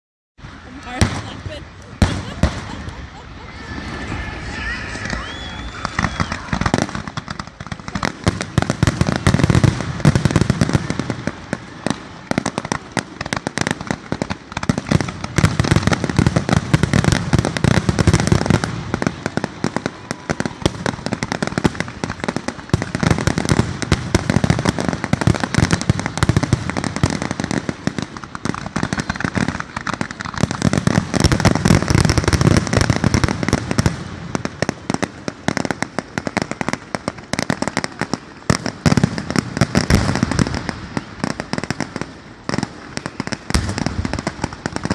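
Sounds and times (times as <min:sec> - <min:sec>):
fireworks bangs and crackles: 0:00.4 - 0:44.9
heavy fireworks booms: 0:00.4 - 0:44.9.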